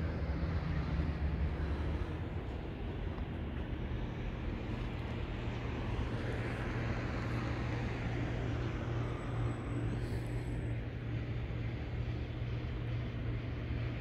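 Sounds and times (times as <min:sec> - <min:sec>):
low machine hum: 0:00.0 - 0:14.0
outdoor background noise: 0:00.0 - 0:14.0.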